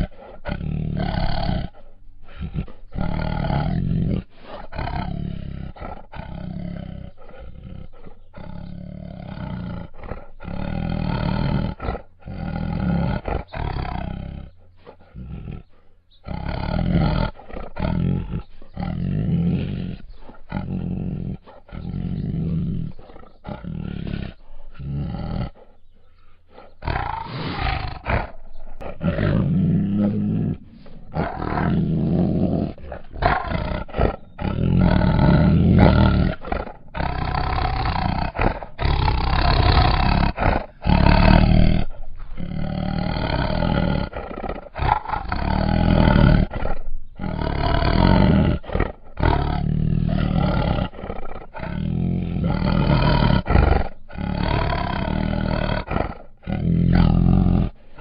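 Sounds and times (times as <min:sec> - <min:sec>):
tiger growling and roaring: 0:00.0 - 0:58.0.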